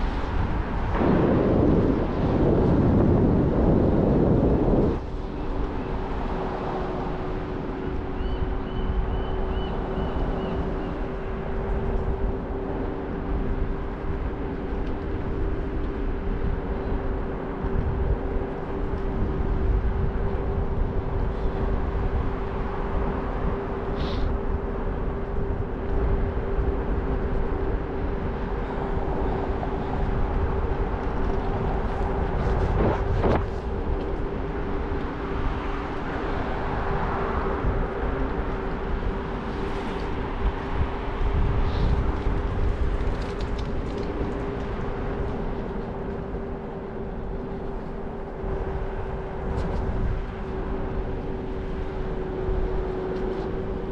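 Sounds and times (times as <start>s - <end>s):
low rumbling ride noise: 0.0s - 53.9s
scooter whine: 0.0s - 53.9s.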